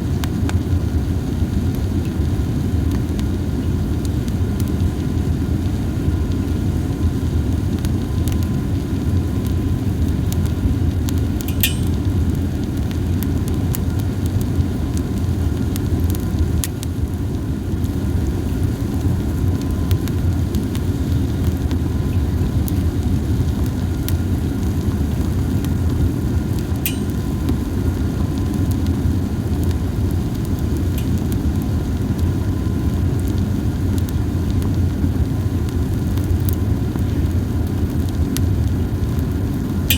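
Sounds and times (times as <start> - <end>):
campfire rumbling: 0.0 - 39.9
fire crackling and popping: 0.0 - 39.9.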